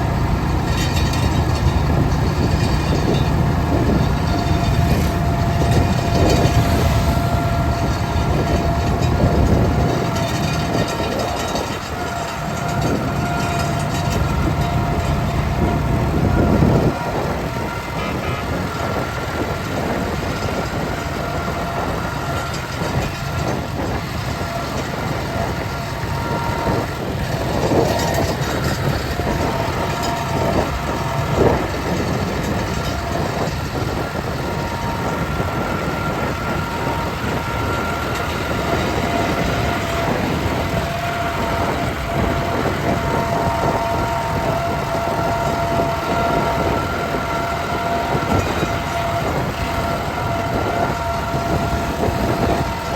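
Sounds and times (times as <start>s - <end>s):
steady whine: 0.0s - 52.9s
tractor engine running: 0.0s - 52.9s.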